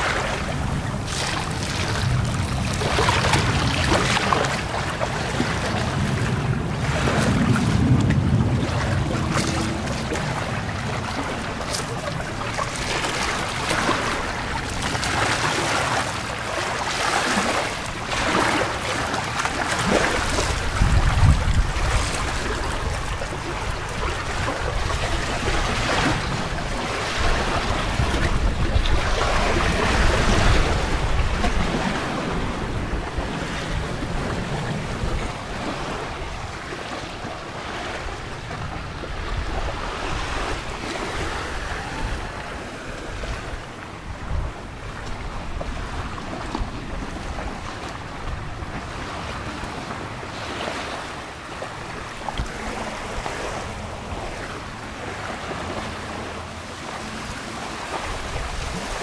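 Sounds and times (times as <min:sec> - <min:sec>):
waves washing: 0:00.0 - 0:59.0
wind gusting over microphone: 0:00.0 - 0:59.0.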